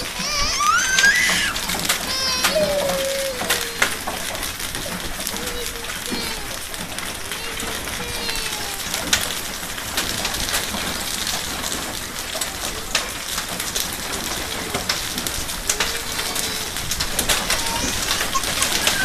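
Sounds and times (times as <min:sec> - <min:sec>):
hailstones ticking on ground: 0:00.0 - 0:19.0
heavy rain on asphalt: 0:00.0 - 0:19.0.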